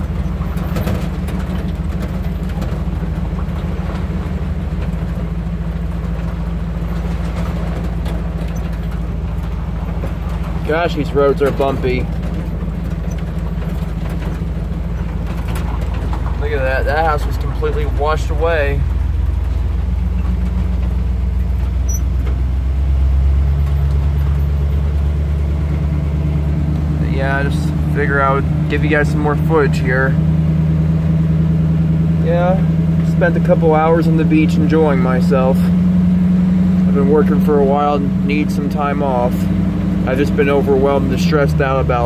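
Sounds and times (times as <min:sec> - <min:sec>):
knocks and rattles: 0:00.0 - 0:42.0
truck engine and road drone: 0:00.0 - 0:42.0.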